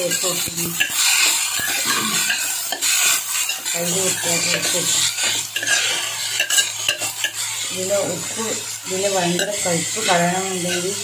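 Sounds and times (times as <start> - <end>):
spatula scraping a pan: 0.0 - 11.0
vegetables sizzling in oil: 0.0 - 11.0.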